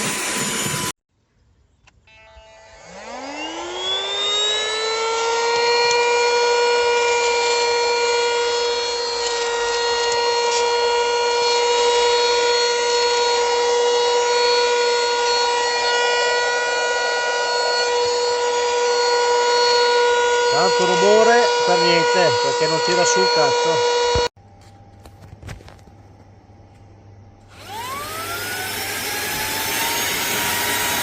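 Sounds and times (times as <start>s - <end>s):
handheld vacuum motor whine: 0.0s - 0.9s, 2.2s - 24.3s, 27.4s - 31.0s.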